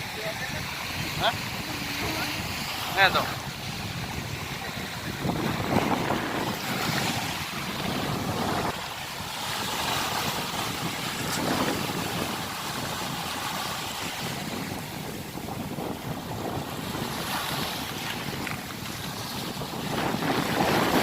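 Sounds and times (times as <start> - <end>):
sea waves washing in: 0.0 - 21.0
wind buffeting microphone: 0.0 - 21.0.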